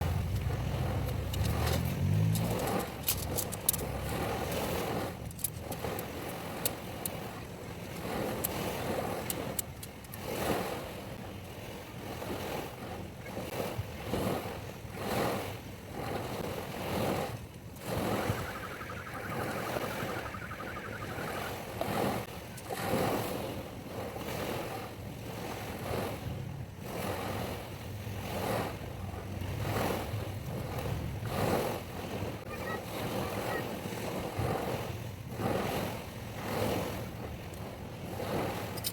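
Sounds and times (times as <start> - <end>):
wind buffeting microphone: 0.0 - 38.8
surf on a beach: 0.0 - 38.9.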